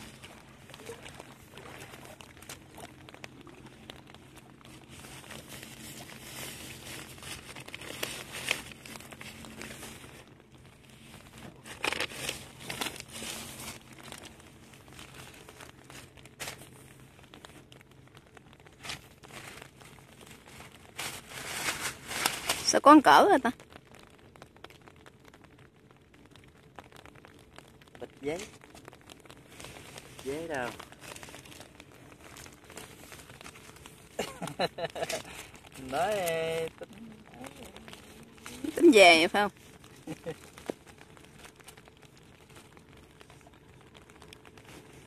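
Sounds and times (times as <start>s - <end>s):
plastic bags crinkling: 0.0s - 23.5s, 28.0s - 45.0s.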